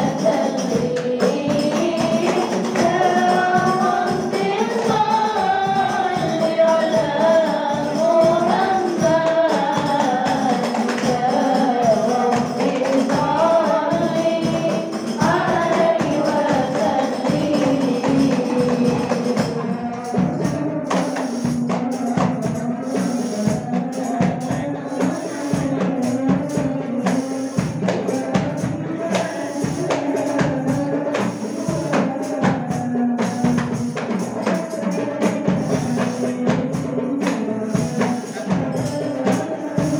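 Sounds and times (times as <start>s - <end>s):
frame drums beating: 0.0s - 39.9s
person singing over loudspeaker: 0.0s - 39.9s.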